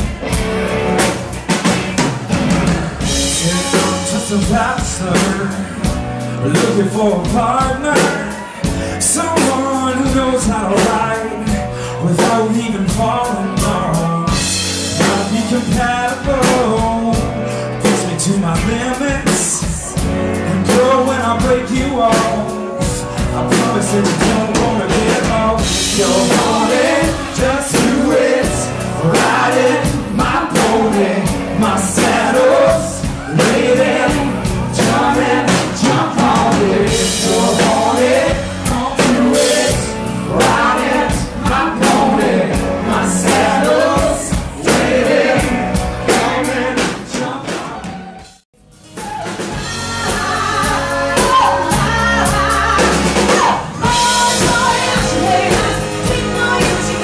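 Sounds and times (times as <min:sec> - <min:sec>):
live band playing drums and guitars: 0:00.0 - 0:57.0
man and woman singing: 0:03.0 - 0:48.3, 0:49.1 - 0:57.0.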